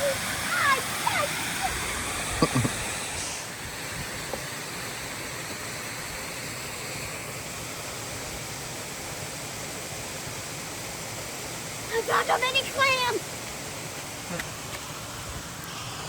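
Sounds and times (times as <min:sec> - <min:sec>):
flowing water: 0:00.0 - 0:16.0.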